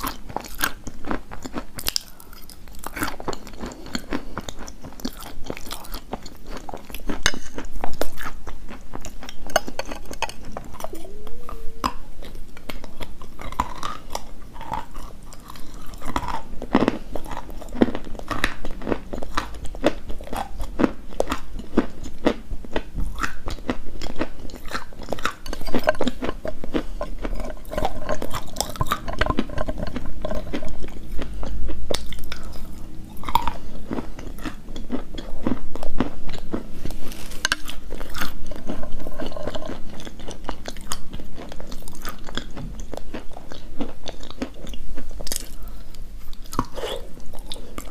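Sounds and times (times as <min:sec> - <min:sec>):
person chewing crunchy chalk: 0:00.0 - 0:47.9.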